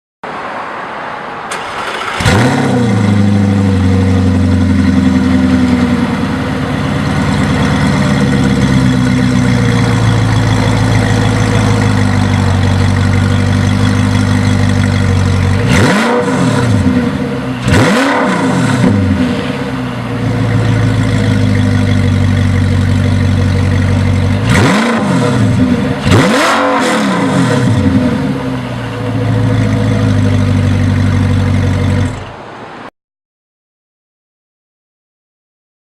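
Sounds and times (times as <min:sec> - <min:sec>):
sports car engine revving and idling: 0:02.1 - 0:32.4.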